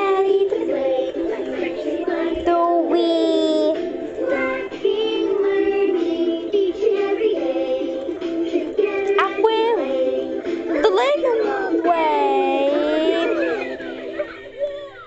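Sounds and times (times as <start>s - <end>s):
toy playing children's song: 0.0s - 15.0s.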